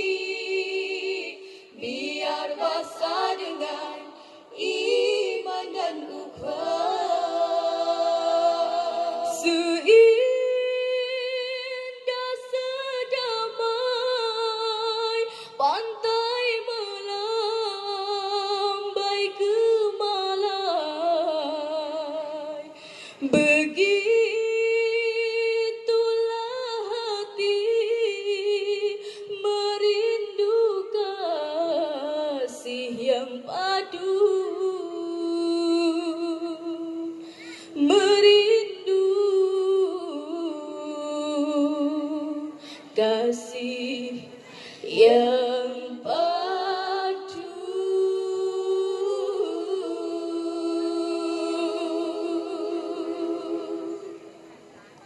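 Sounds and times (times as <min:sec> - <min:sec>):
women singing in harmony: 0:00.0 - 0:54.7.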